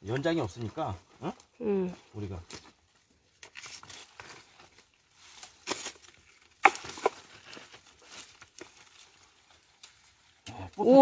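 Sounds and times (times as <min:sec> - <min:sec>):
leaves rustling: 0:00.0 - 0:11.0
roots tearing: 0:00.0 - 0:11.0.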